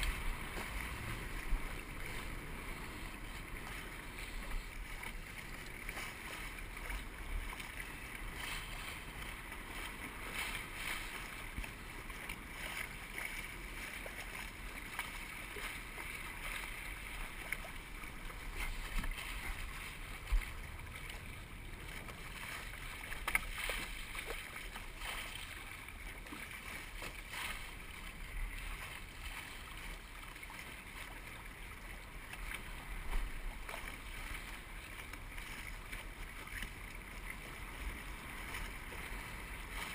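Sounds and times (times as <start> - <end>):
wind and water rushing along hull: 0.0 - 39.9.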